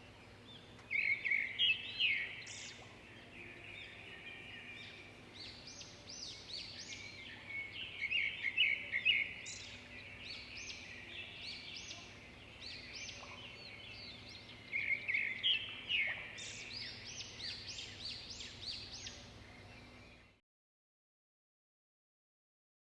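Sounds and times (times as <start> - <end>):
songbirds chirping: 0.0 - 20.4.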